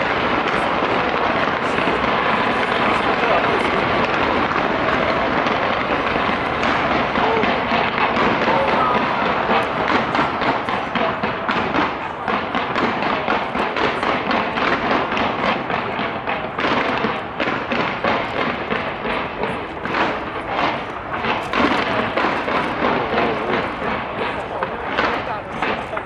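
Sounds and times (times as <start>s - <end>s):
fireworks bangs and thuds: 0.0s - 26.0s
fireworks crackling: 0.0s - 26.0s.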